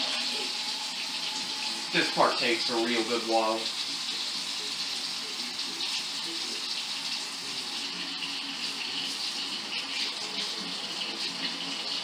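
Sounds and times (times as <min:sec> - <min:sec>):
kitchen faucet running: 0:00.0 - 0:12.0.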